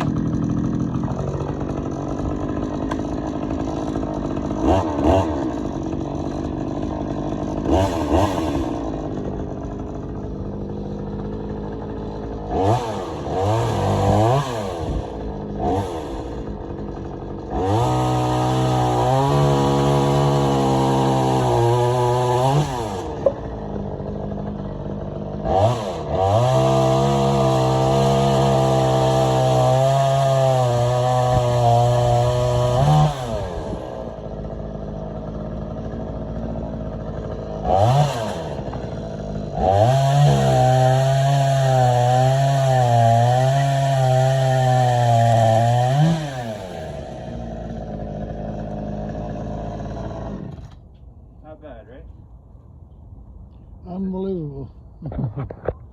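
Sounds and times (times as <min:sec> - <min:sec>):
chainsaw revving and idling: 0:00.0 - 0:52.0.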